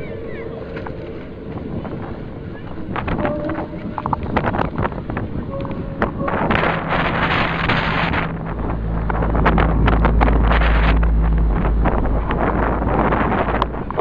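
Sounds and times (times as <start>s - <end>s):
low rumble: 0.0s - 14.0s
wind buffeting microphone: 0.0s - 14.0s.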